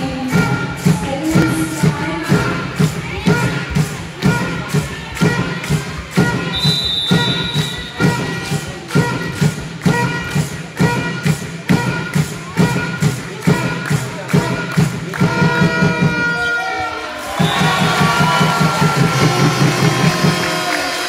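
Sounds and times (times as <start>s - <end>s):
music with thumping beat: 0.0s - 16.4s, 17.4s - 20.8s.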